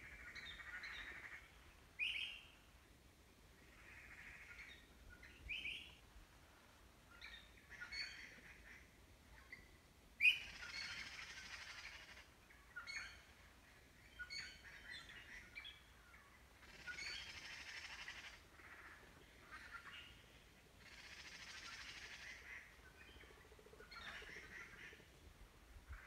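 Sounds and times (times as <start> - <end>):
faint birds chirping and trilling: 0.0 - 26.0.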